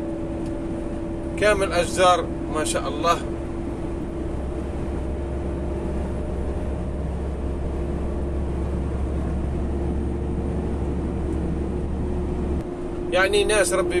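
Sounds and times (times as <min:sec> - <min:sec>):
road and wind noise: 0:00.0 - 0:14.0
truck engine drone: 0:00.0 - 0:14.0.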